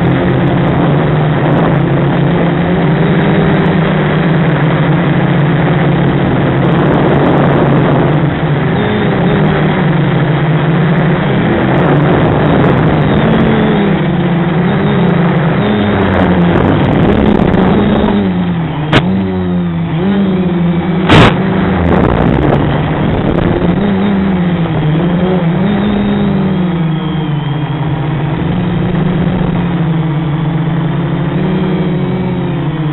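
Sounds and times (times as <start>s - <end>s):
drone motors buzzing: 0.0s - 32.9s.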